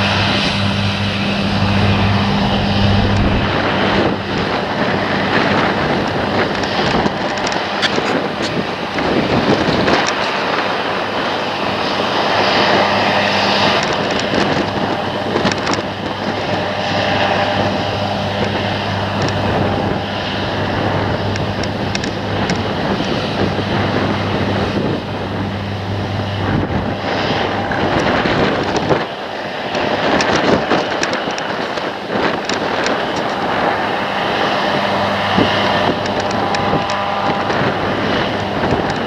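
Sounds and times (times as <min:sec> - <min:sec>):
combine harvester engine drone: 0:00.0 - 0:39.0
constant low hum: 0:00.0 - 0:39.0.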